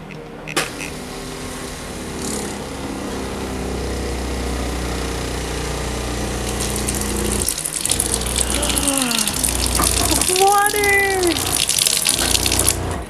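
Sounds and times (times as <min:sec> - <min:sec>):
water pump humming: 0:00.0 - 0:13.0.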